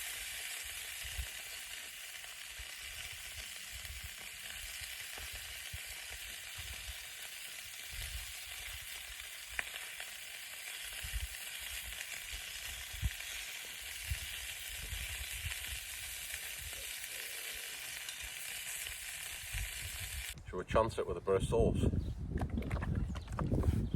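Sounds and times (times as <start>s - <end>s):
sausages sizzling in a frying pan: 0.0s - 20.4s.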